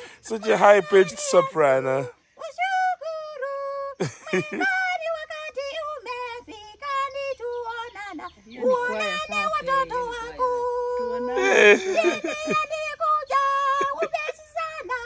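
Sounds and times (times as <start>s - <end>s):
woman singing soprano: 2.4s - 15.0s.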